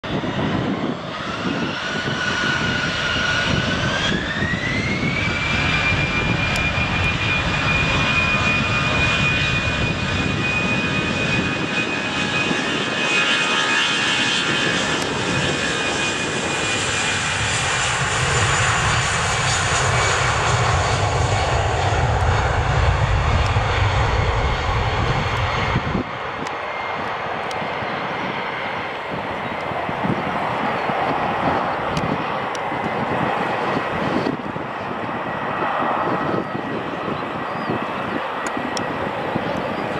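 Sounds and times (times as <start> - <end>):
deep rumble of airliner: 0.0 - 39.9
jet engines spooling up: 0.1 - 39.9.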